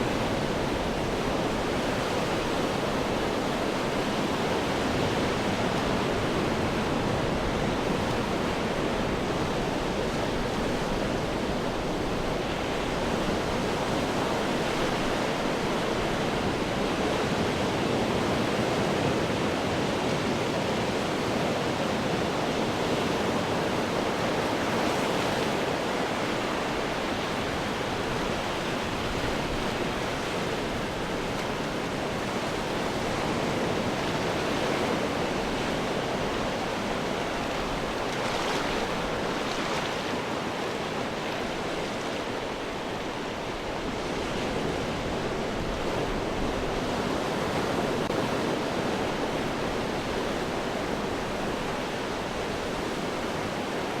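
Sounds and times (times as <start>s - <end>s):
ocean waves breaking on rocks: 0.0s - 54.0s.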